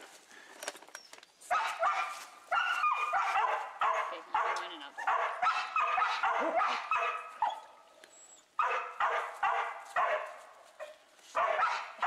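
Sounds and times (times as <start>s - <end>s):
dogs barking excitedly: 1.5s - 7.8s, 8.5s - 12.0s.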